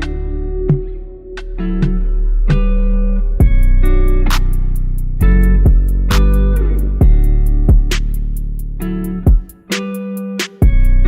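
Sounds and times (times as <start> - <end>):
rock music with guitar and drums: 0.0 - 11.0.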